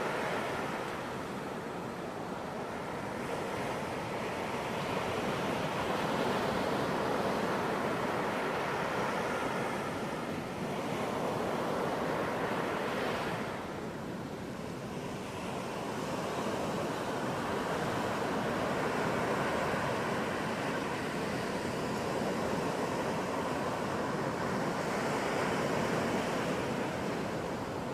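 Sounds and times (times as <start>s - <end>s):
ocean waves breaking on beach: 0.0s - 27.9s.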